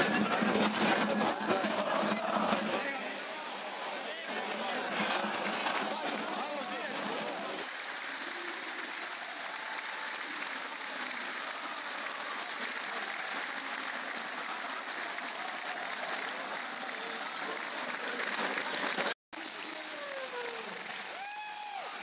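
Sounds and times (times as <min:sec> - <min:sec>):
stadium crowd clapping and cheering: 0:00.0 - 0:22.0.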